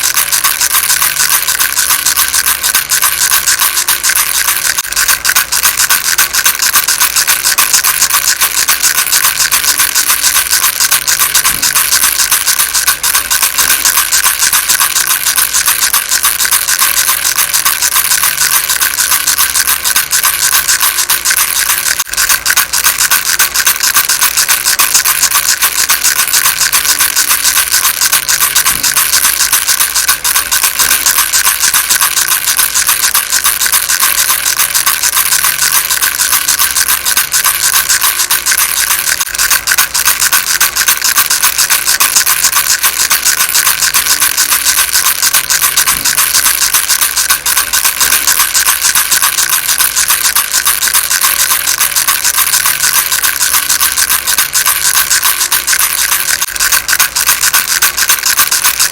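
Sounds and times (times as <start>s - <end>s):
baby rattle shaken: 0.0s - 58.9s.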